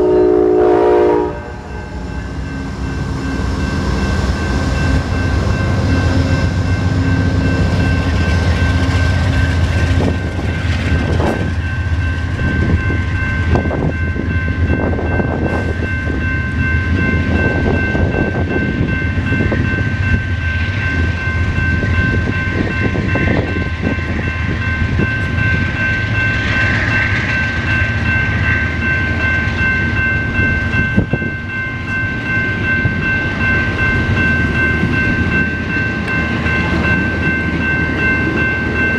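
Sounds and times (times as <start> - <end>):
train wheels rumbling on rails: 0.0 - 38.9
steady high-pitched tone: 1.2 - 38.9.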